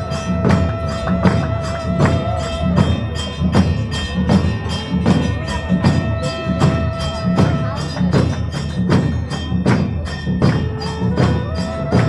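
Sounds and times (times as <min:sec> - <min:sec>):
dhol drums beating: 0:00.0 - 0:12.0.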